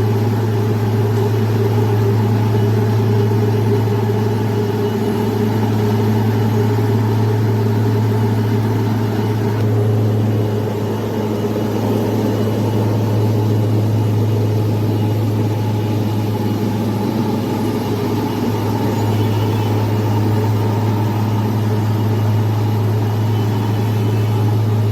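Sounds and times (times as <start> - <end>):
heavy engine droning: 0.0 - 24.9.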